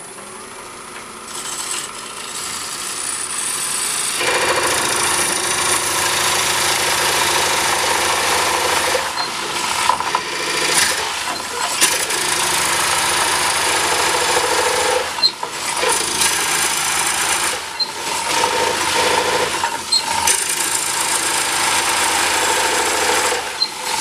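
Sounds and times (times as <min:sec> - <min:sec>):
lathe knife scraping wood: 0:01.2 - 0:24.0.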